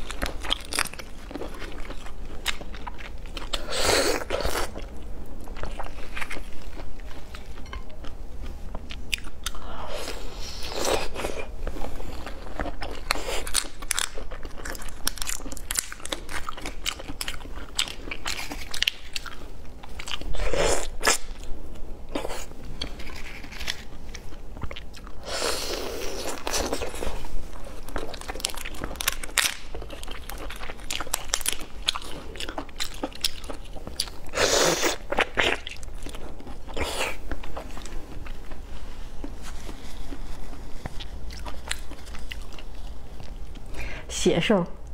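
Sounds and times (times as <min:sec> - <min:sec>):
chewing: 0:00.0 - 0:21.5, 0:22.1 - 0:43.7.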